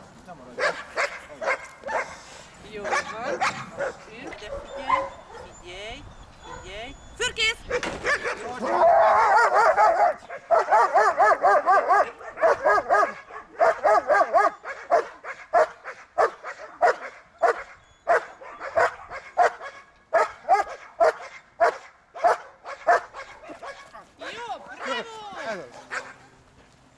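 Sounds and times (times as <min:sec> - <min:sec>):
dog barking: 0:00.6 - 0:02.2, 0:02.8 - 0:05.5, 0:06.4 - 0:06.7, 0:07.7 - 0:24.1, 0:25.7 - 0:26.3.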